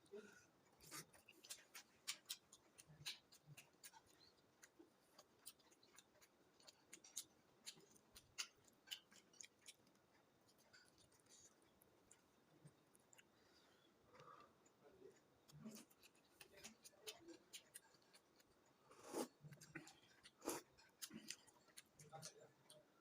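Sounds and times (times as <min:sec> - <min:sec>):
chewing clicks and smacks: 0:00.7 - 0:13.3, 0:14.1 - 0:22.9.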